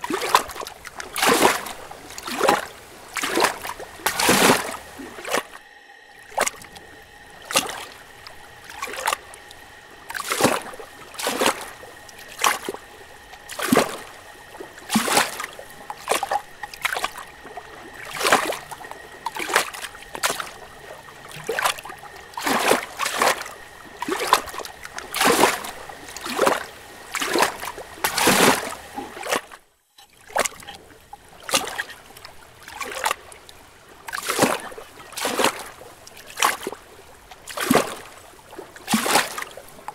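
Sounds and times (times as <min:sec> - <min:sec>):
faint steady whine: 0:00.0 - 0:39.9
hot tub bubbling: 0:00.0 - 0:39.9
water sloshing and splashing: 0:00.0 - 0:39.9.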